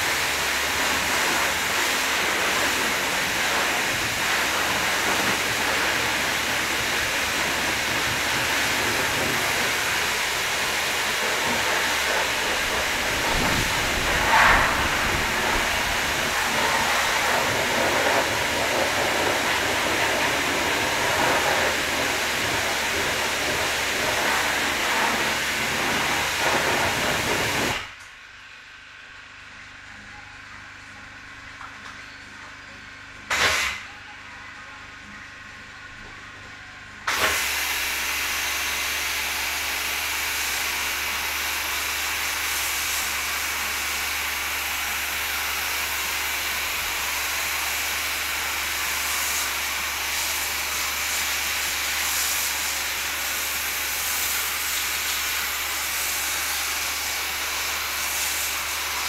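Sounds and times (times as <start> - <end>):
pressure washer spraying water: 0.0 - 27.9, 37.1 - 59.0.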